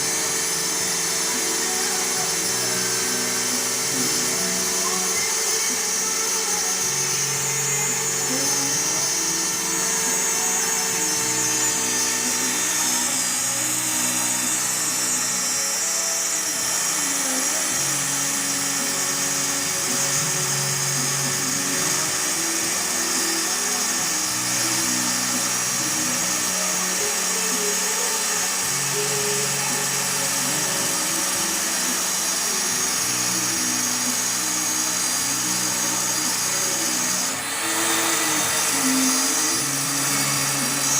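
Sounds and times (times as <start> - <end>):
background music: 0.0 - 40.9
router spindle whining: 0.0 - 40.9.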